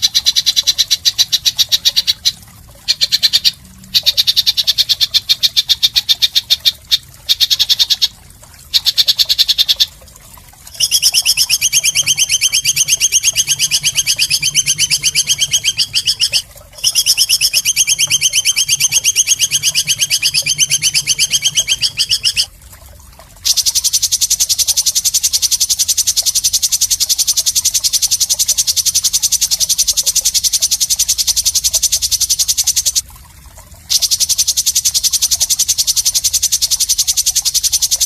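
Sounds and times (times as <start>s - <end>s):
songbird rapid trills: 0.0s - 10.0s, 10.6s - 22.5s, 23.4s - 33.0s, 33.9s - 38.0s.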